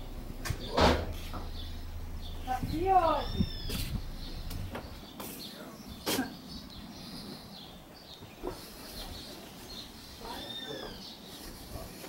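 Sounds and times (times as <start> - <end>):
faint bird chirps: 0.6 - 11.5.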